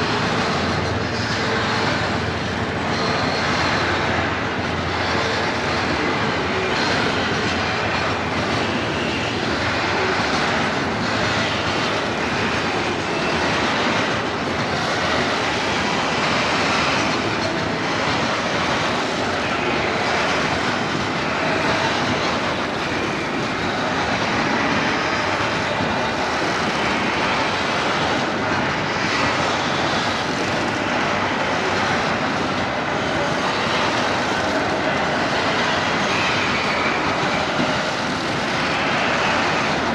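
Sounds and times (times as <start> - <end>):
freight train rumbling on track: 0.0 - 39.9.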